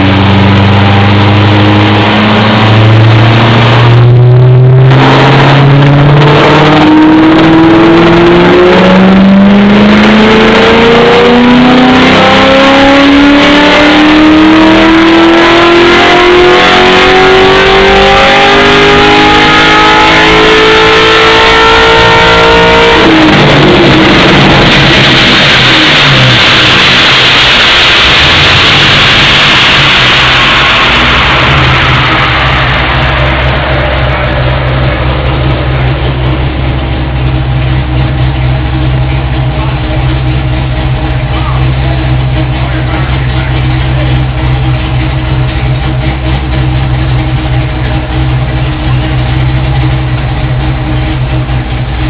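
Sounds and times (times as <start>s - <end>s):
loud engine accelerating: 0.0s - 52.0s.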